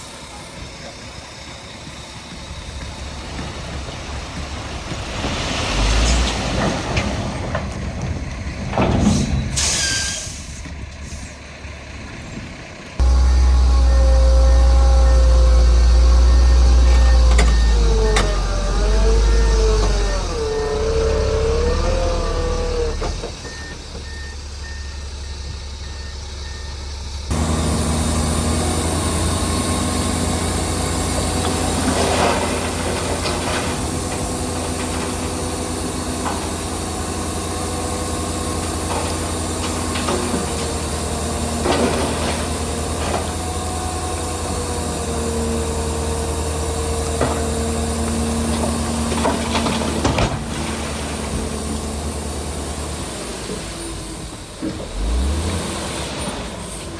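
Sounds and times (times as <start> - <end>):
heavy diesel machinery engine: 0.0 - 56.9.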